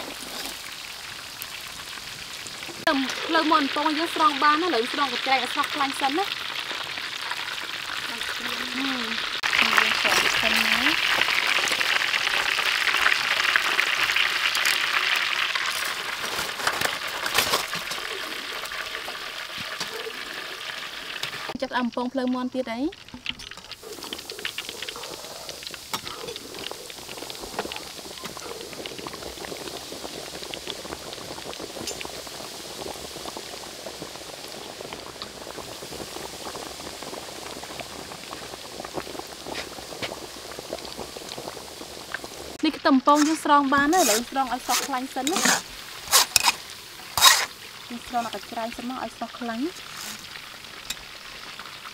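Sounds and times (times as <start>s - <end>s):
chicken deep-frying in oil: 0.0s - 51.9s.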